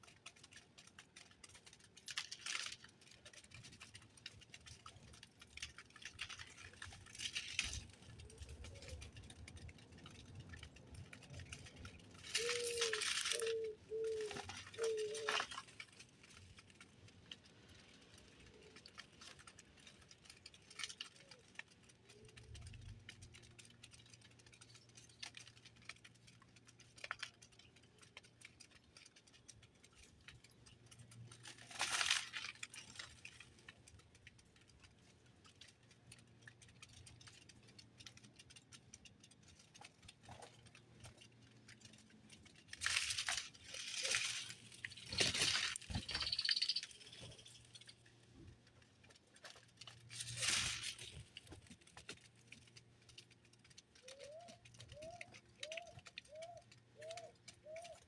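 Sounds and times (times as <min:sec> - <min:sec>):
birds pecking seed: 0:00.0 - 0:58.0
rustling flurries of wings: 0:01.5 - 0:33.7, 0:39.5 - 0:58.0.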